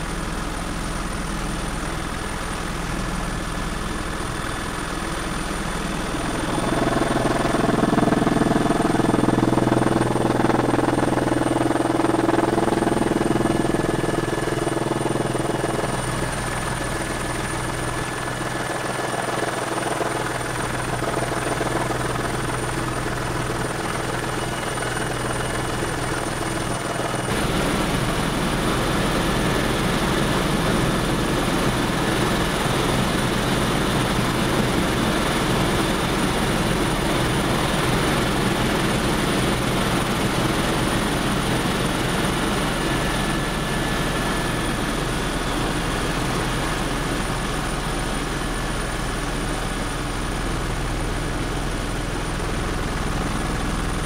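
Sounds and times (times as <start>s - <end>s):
helicopter engine and rotor noise: 0.0s - 54.0s.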